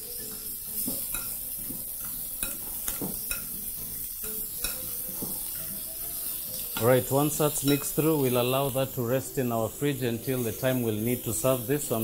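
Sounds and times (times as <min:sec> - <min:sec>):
meat sizzling on griddle: 0:00.0 - 0:12.0.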